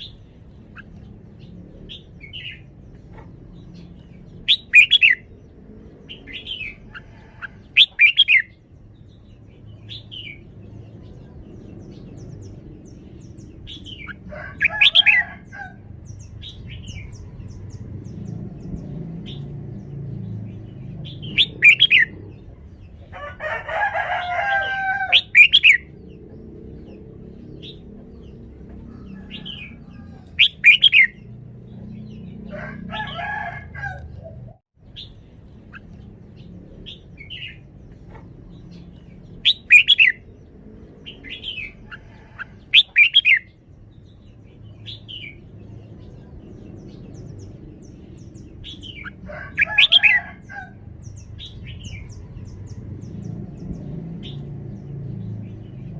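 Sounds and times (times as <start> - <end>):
bulbul singing bright phrases: 0.0 - 15.3, 15.9 - 23.0, 25.1 - 32.5, 34.3 - 42.0, 42.6 - 55.9
harsh chattering bird calls: 0.0 - 55.9.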